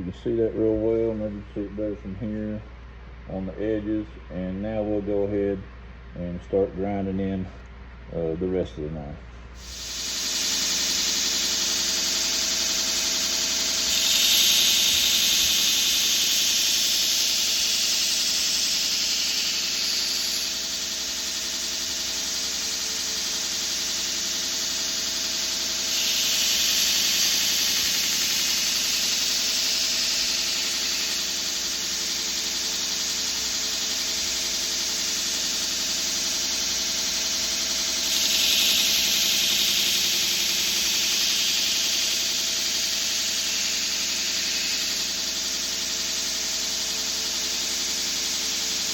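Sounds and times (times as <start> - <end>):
grinder grinding knife blade: 9.6 - 48.9.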